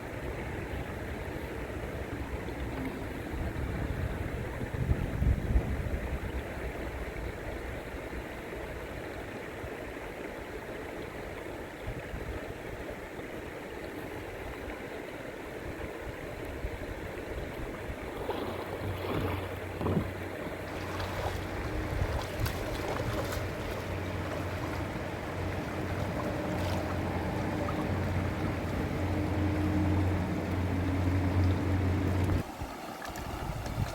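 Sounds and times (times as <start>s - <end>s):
river water flowing: 0.0s - 33.9s.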